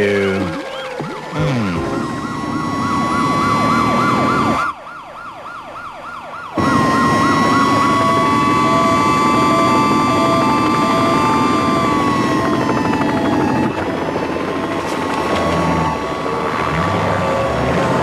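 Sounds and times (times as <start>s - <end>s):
steady high tone: 0.0s - 4.7s, 6.6s - 17.5s
cartoon police sirens yelping: 0.0s - 18.0s.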